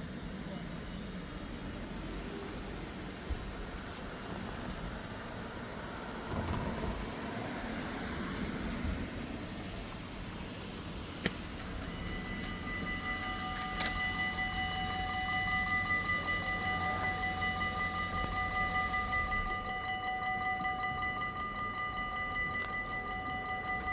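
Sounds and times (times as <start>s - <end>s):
level crossing warning bells: 0.0s - 23.9s.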